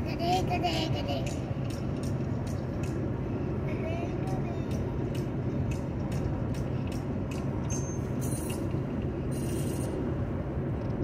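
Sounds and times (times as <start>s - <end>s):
car driving on highway: 0.0s - 11.0s.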